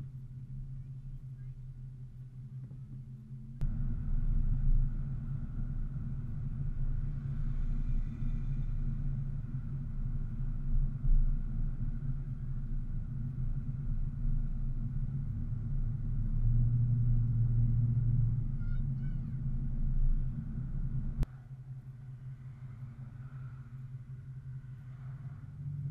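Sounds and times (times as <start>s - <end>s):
vehicle driving rumble: 0.0s - 25.9s.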